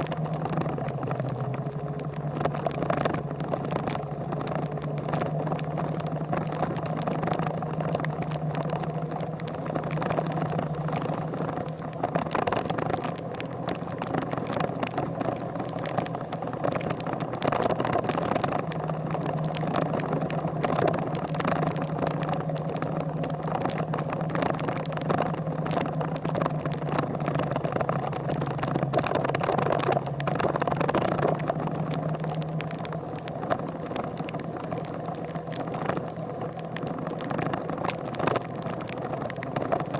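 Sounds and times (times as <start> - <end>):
crackle of clicks and rattles: 0.0 - 39.9
vehicle engine humming: 0.0 - 39.9.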